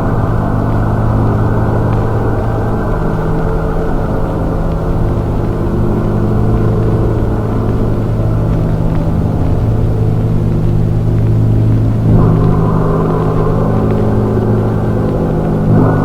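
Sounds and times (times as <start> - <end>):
distorted low drone: 0.0 - 16.0.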